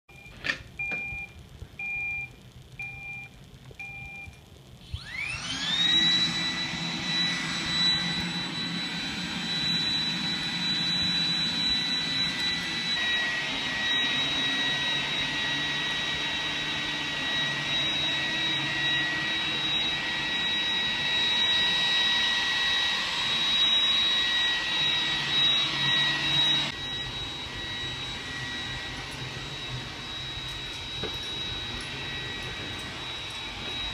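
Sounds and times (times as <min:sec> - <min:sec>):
robot vacuum motor whine: 0:04.8 - 0:33.9.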